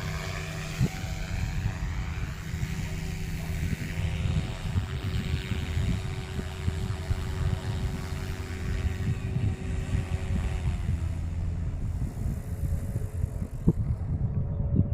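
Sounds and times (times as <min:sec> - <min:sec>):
model helicopter motor whine: 0:00.0 - 0:14.9
wind buffeting microphone: 0:00.0 - 0:14.9.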